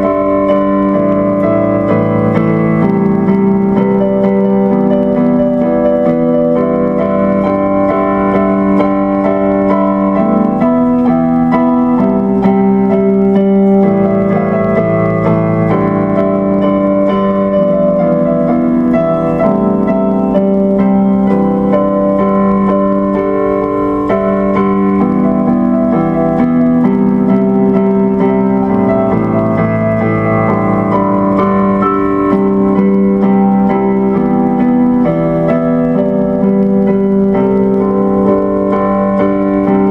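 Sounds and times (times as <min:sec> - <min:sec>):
electric piano chords: 0:00.0 - 0:39.9.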